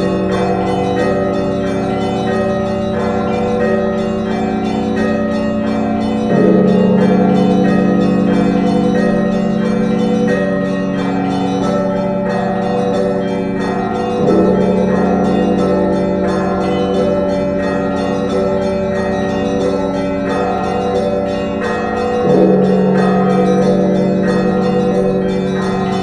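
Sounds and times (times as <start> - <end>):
church bells ringing a peal: 0.0 - 26.0.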